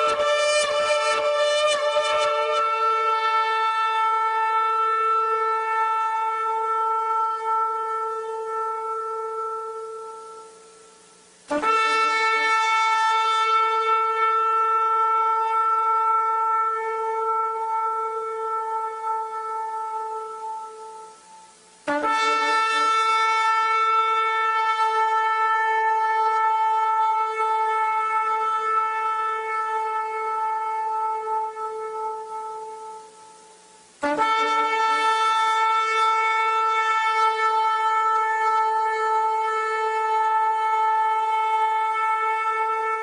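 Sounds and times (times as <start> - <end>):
ram's horn blasts: 0.0 - 43.0.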